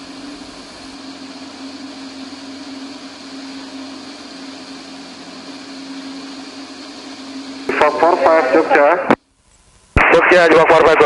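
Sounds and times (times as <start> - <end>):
light aircraft engine drone: 0.0 - 9.2.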